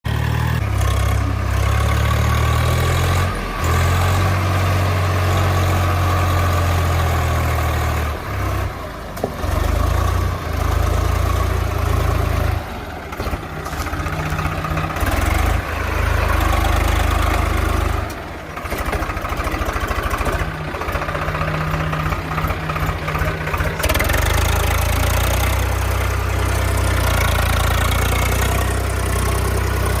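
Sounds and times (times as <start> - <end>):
tractor engine running: 0.1 - 30.0.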